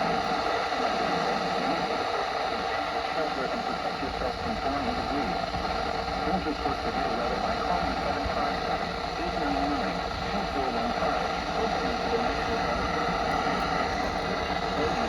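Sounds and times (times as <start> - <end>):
faint voice: 0.0 - 5.5, 6.2 - 15.0
radio static hiss: 0.0 - 15.0.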